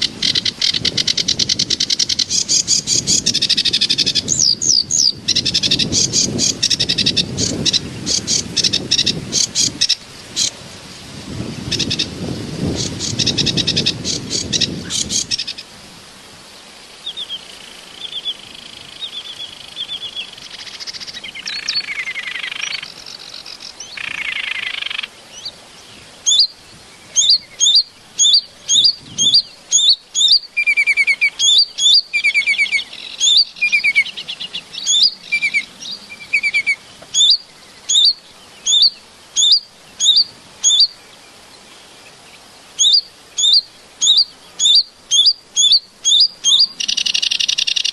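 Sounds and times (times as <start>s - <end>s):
small bird chirping: 0.0s - 10.6s, 11.6s - 15.6s, 17.0s - 41.2s, 42.8s - 47.9s.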